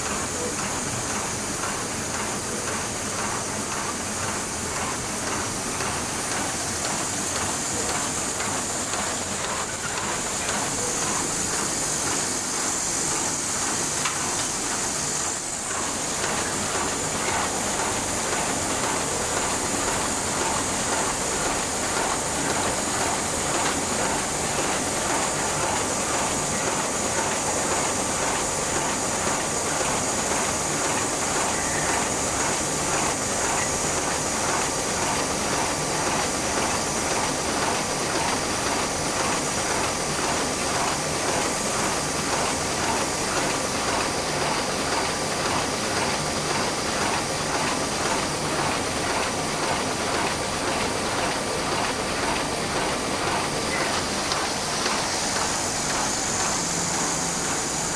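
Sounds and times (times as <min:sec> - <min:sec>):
constant hiss: 0:00.0 - 0:44.8, 0:53.2 - 0:57.9.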